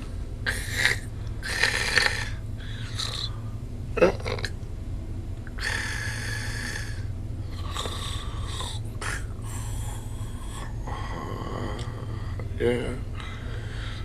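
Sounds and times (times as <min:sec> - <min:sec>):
steady low hum: 0:00.0 - 0:14.0
man snoring: 0:00.4 - 0:03.4, 0:05.5 - 0:14.0.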